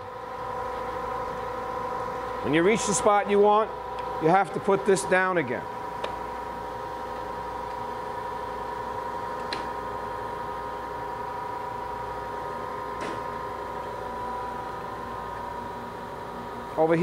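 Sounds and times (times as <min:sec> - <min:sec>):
grinding machine humming: 0:00.0 - 0:17.0.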